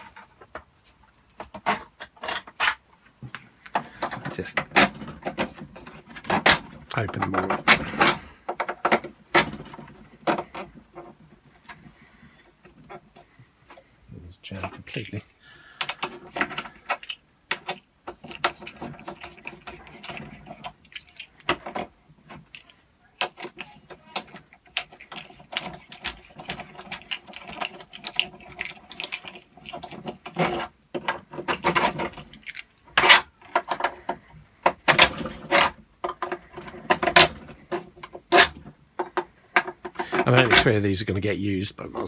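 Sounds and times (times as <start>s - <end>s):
metal bolt scraping and rattling: 0.0s - 42.0s.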